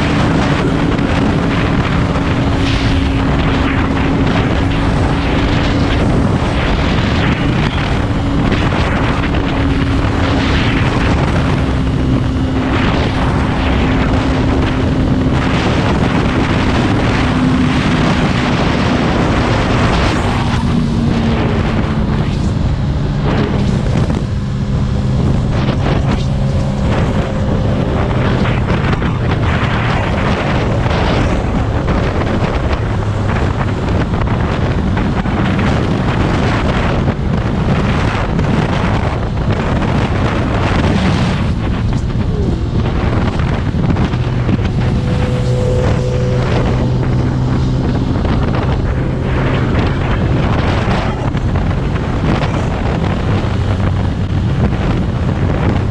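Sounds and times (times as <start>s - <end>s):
motorcycle engine drone: 0.0s - 55.9s
wind noise on microphone: 0.0s - 55.9s.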